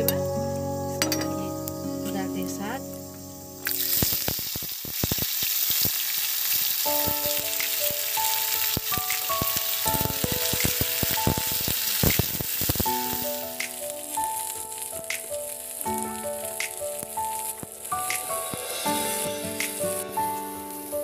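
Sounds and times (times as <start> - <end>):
background music: 0.0 - 4.5, 6.9 - 21.0
greens sizzling in hot oil: 0.0 - 21.0.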